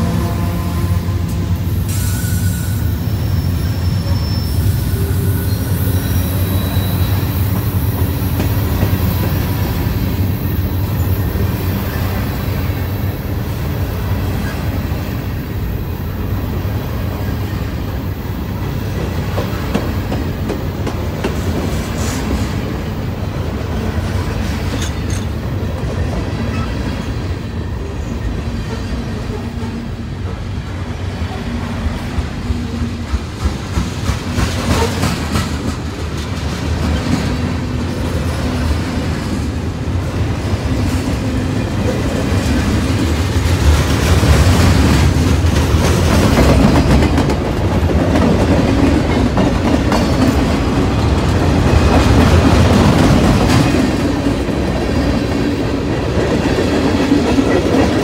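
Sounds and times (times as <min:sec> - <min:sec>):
freight train wheels clattering: 0:04.1 - 0:15.9, 0:16.9 - 0:27.4, 0:31.5 - 0:58.0.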